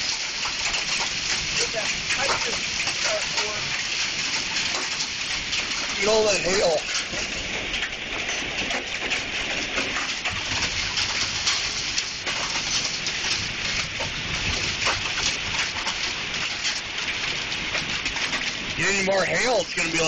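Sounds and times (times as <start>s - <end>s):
hailstones clattering: 0.0s - 20.0s.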